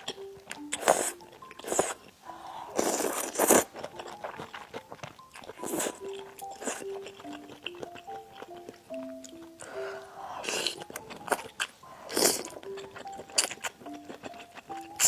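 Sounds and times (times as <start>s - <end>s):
close eating and biting sounds: 0.0s - 15.0s
soft background music: 0.0s - 15.0s.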